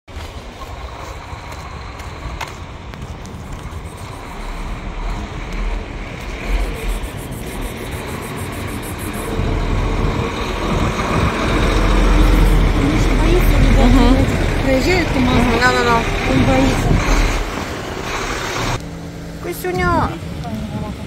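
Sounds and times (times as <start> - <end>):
low outdoor rumble: 0.1 - 21.0.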